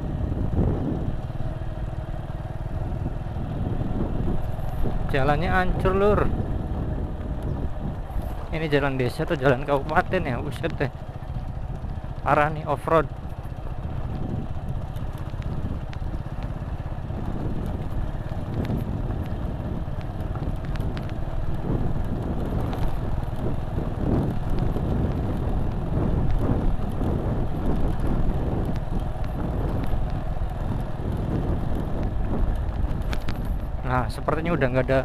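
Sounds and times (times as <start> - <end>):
knocks and rattles of bike: 0.0 - 35.0
motorcycle engine rumble: 0.0 - 35.0.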